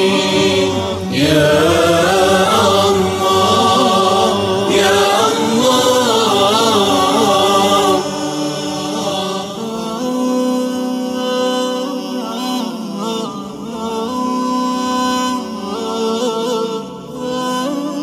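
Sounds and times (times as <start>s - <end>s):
voices singing in harmony: 0.0s - 18.0s.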